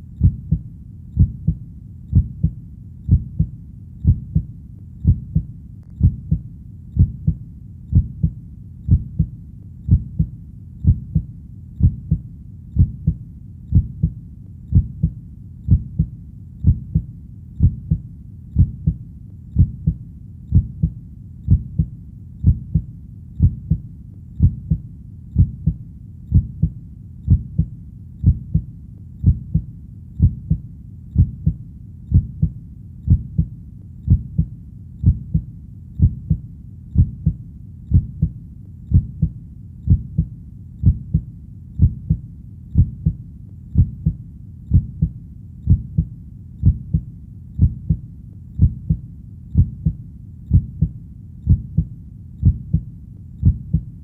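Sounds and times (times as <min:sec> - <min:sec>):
heartbeat: 0:00.0 - 0:54.0.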